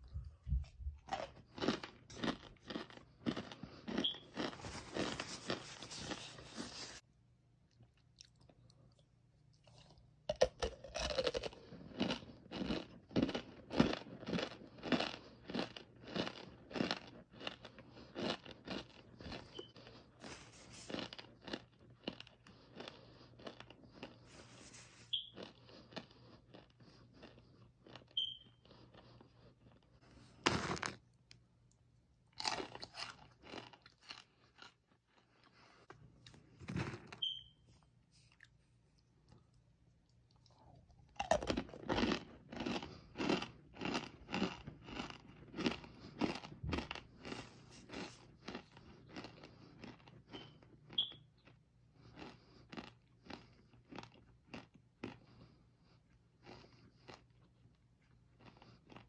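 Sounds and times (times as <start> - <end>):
crunchy chewing: 0.1 - 7.0, 7.7 - 31.4, 32.3 - 37.6, 38.2 - 59.0.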